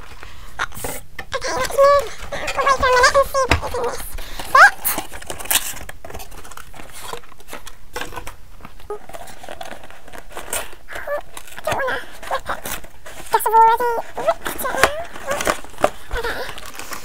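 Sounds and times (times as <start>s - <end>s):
cardboard boxes scraping and rustling: 1.6s - 17.0s.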